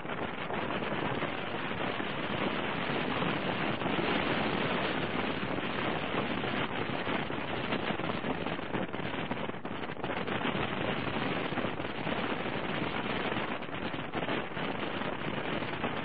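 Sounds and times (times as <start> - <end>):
dense crackle: 0.0 - 16.0
wind buffeting microphone: 0.0 - 16.0.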